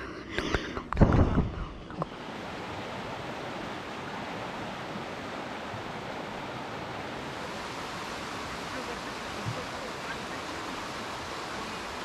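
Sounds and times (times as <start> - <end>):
flowing water rushing: 0.9 - 12.0.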